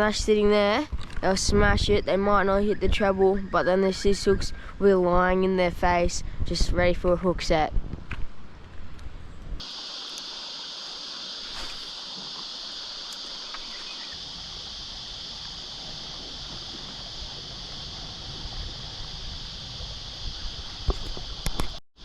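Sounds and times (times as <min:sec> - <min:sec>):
cicadas shrilling: 0:00.0 - 0:06.2, 0:09.6 - 0:21.8.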